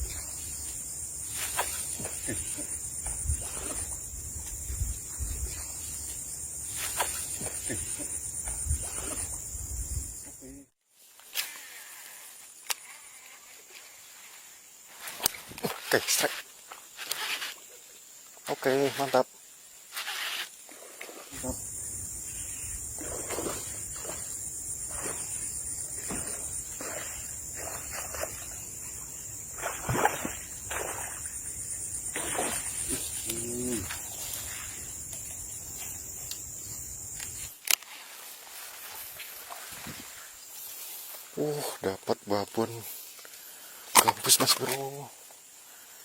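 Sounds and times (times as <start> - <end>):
insect chorus buzzing: 0.0 - 46.0.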